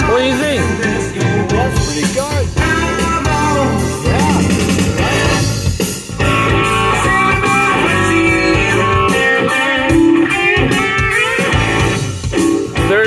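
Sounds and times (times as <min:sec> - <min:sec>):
guitar music on car stereo: 0:00.0 - 0:13.0.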